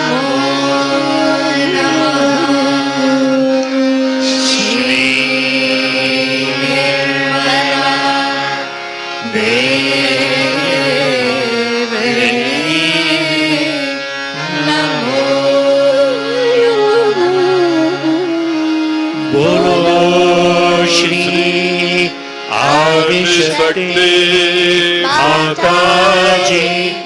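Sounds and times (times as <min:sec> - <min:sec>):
voices singing devotional song: 0:00.0 - 0:18.3, 0:19.1 - 0:27.0
steady held drone: 0:00.0 - 0:27.0.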